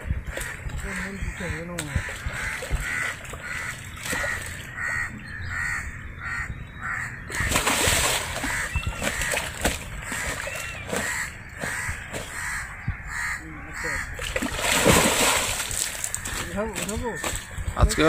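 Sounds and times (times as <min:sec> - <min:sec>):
pond water splashing: 0:00.0 - 0:17.8
bird calling: 0:00.2 - 0:18.0.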